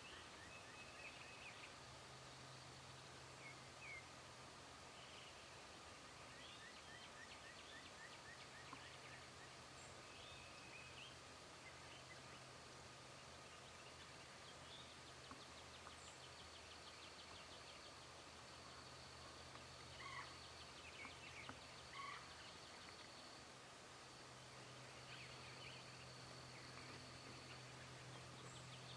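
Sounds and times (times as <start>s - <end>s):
songbirds chirping and trilling: 0.0s - 28.9s.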